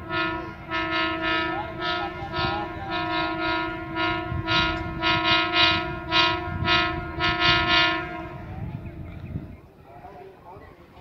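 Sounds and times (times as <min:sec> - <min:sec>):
locomotive horn blasts: 0:00.0 - 0:09.0.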